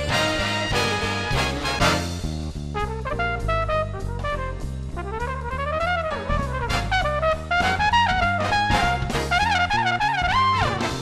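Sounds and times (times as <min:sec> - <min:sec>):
bass line: 0:00.0 - 0:11.0
brass lead melody: 0:00.0 - 0:11.0
swing jazz music: 0:00.0 - 0:11.0.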